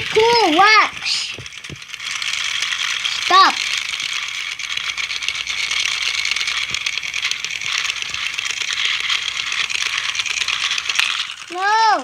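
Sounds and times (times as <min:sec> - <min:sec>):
toy train clicking rattle: 0:00.0 - 0:12.0.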